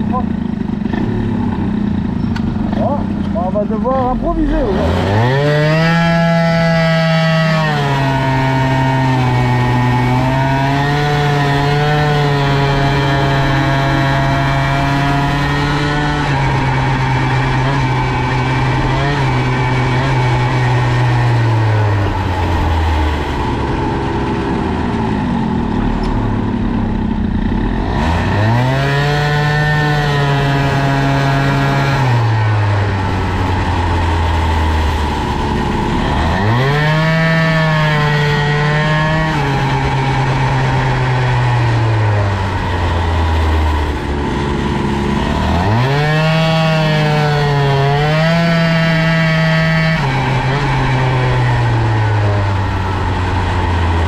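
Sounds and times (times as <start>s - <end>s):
moped engine revving: 0.0s - 54.0s.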